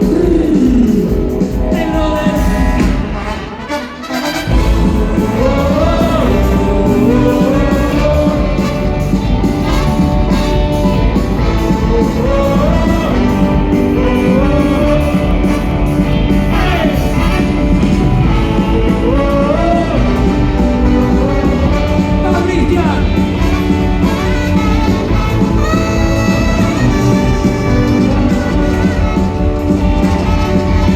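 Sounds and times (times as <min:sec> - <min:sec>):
rock band playing live: 0:00.0 - 0:30.9
sliding lead melody: 0:00.2 - 0:30.9.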